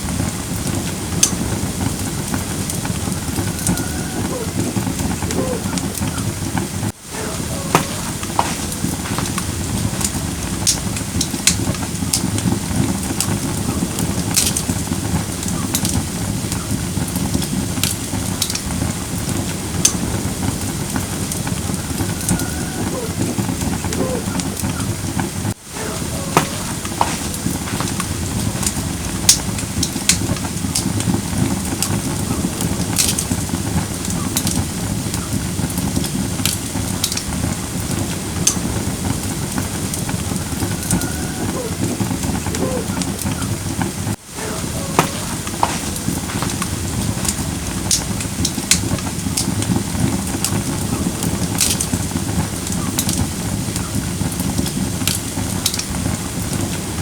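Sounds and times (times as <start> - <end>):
firewood burning with pops and crackles: 0.0 - 57.0.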